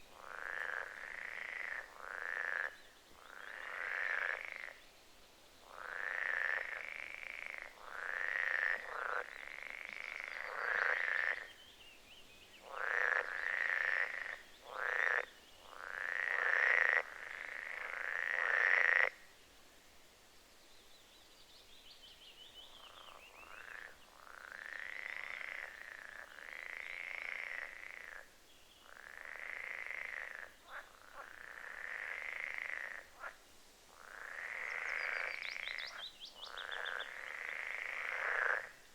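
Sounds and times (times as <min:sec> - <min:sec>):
frogs croaking: 0:00.1 - 0:04.8, 0:05.6 - 0:11.6, 0:12.6 - 0:19.3, 0:22.6 - 0:38.9.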